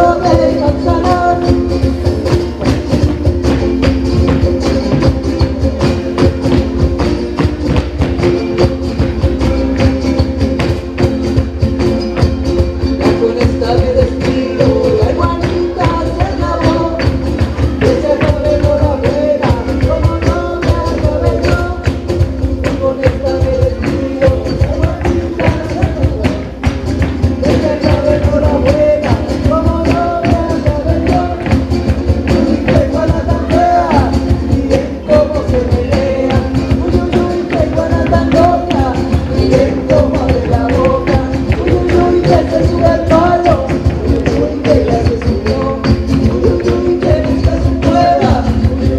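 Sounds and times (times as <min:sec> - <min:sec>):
band playing latin music: 0:00.0 - 0:48.9
fast percussion beat: 0:00.0 - 0:48.9.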